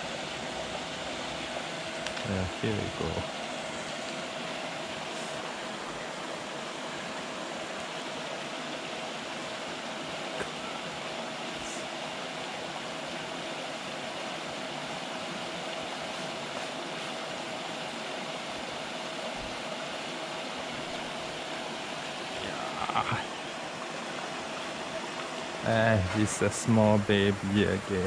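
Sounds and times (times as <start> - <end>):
faint steady hum: 0.0 - 28.0
pond aerator churning water: 0.0 - 28.0.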